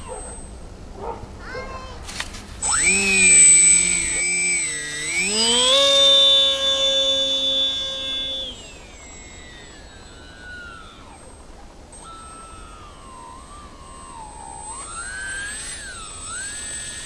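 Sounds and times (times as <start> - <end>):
model plane propeller whining: 0.0 - 1.0, 2.0 - 17.0.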